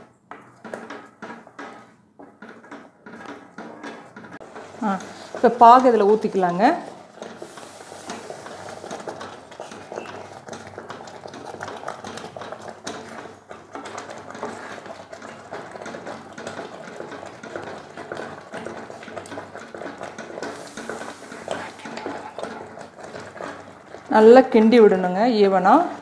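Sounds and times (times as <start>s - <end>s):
spoon scraping and knocking pan: 0.0s - 24.7s
metal spoon stirring thick mixture: 0.0s - 26.0s.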